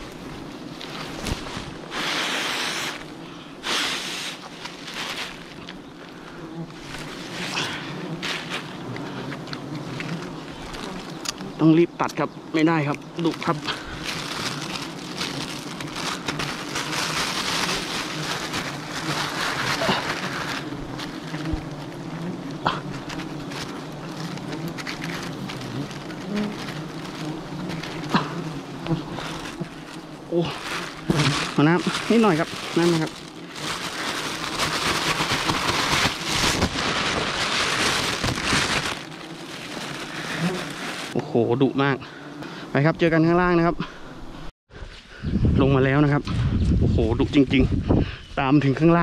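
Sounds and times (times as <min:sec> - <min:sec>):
dense rustling hiss with crackles: 0:00.0 - 0:41.2
bees buzzing: 0:00.0 - 0:43.3.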